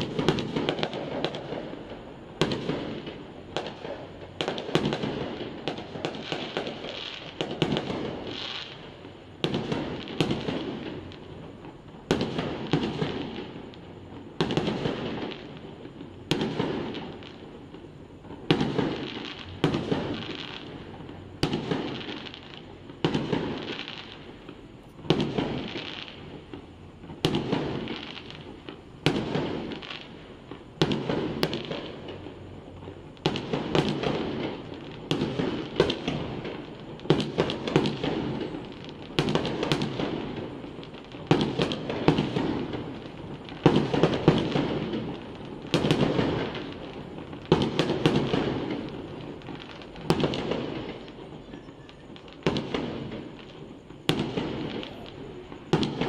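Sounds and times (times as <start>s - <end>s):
firework bangs with crackle: 0.0s - 56.0s
small firework pops: 0.0s - 56.0s.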